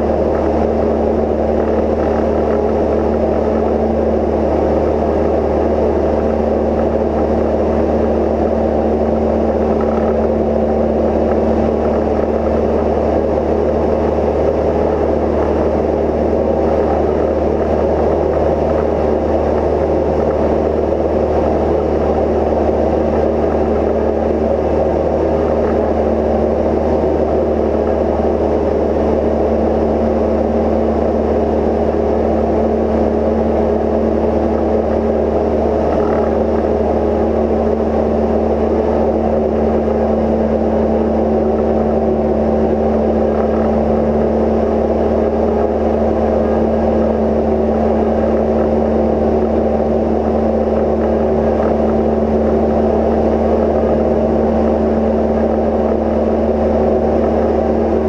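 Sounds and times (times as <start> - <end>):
aircraft cabin engine drone: 0.0 - 58.0.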